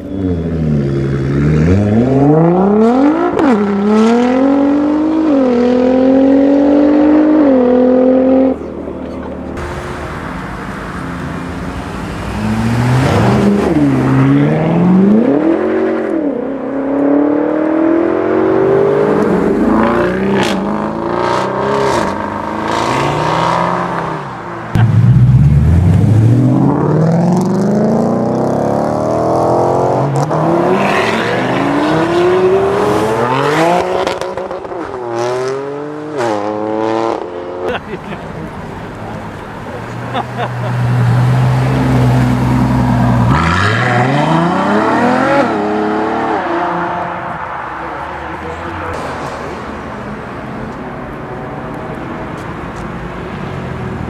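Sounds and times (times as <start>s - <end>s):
car engines revving and accelerating: 0.0s - 54.0s.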